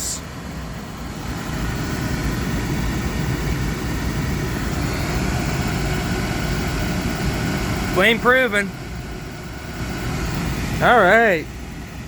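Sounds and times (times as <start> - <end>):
furnace blower fan running: 0.0 - 12.0
oil burner running: 0.0 - 12.0.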